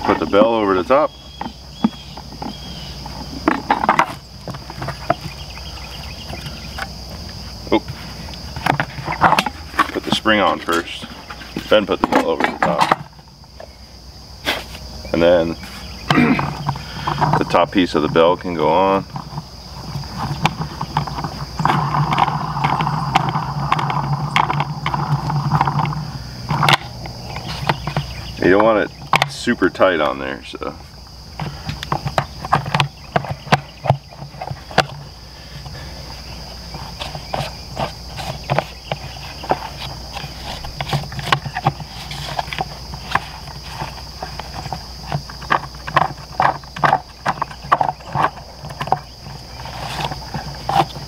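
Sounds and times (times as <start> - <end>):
high insect chorus: 0.0 - 51.0
steady low hum: 0.0 - 51.0
plastic parts clicking and knocking: 0.1 - 5.4, 7.8 - 13.7, 16.1 - 30.7, 31.4 - 35.8, 36.8 - 51.0.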